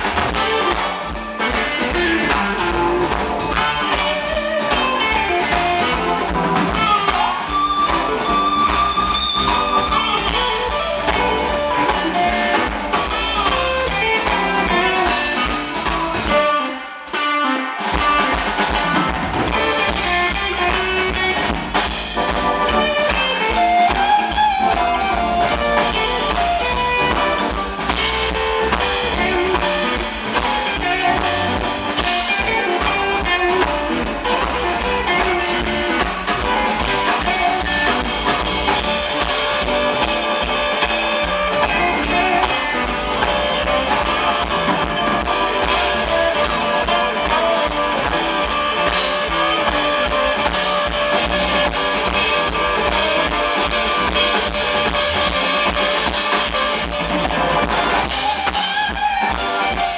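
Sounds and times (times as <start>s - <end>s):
drum kit: 0.0s - 59.9s
electric guitar lead: 0.0s - 59.9s.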